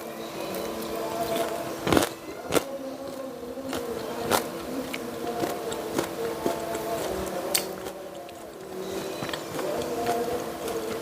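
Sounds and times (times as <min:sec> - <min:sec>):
buzzing hum: 0:00.0 - 0:11.0.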